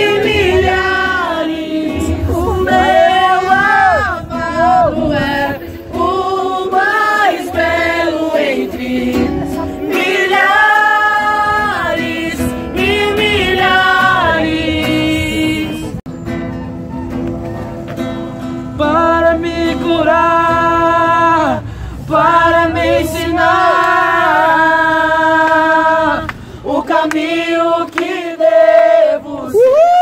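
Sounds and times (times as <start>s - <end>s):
group singing worship song: 0.0s - 16.0s, 18.8s - 29.9s
acoustic guitar: 0.0s - 30.0s.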